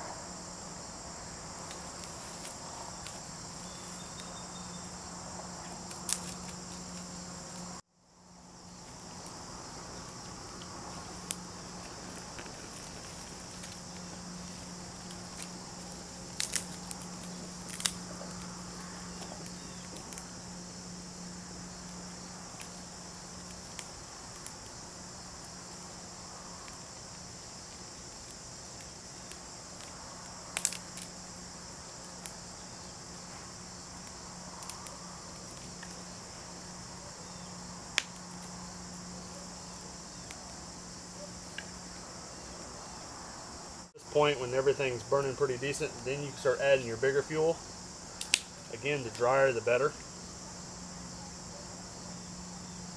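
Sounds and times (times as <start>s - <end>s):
crickets and insects droning: 0.0s - 52.9s
kindling fire snapping and crackling: 0.3s - 52.9s.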